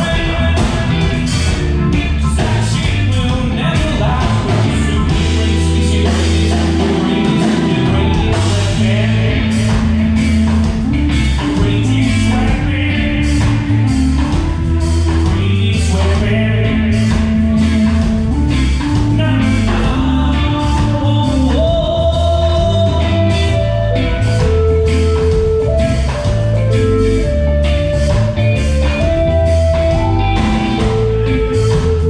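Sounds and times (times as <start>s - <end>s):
man singing: 0.0s - 27.3s
bass line: 0.0s - 32.0s
drums: 0.0s - 32.0s
electric guitar: 0.0s - 32.0s.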